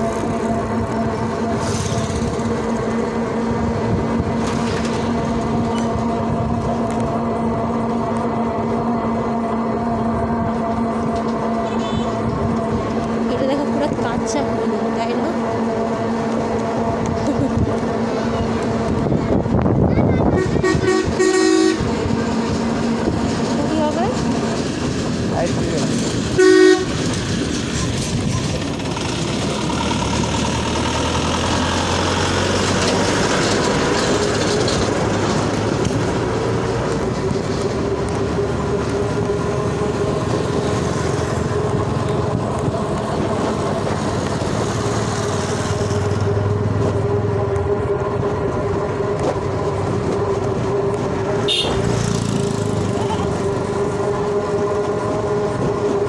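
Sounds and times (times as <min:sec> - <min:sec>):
vehicle driving on road: 0:00.0 - 0:56.0.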